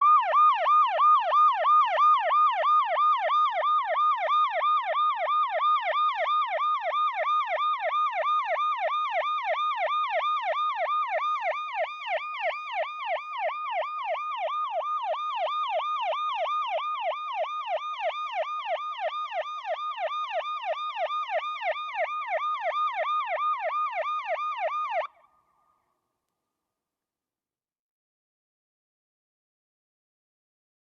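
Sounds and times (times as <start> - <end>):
police siren yelping: 0.0 - 25.2.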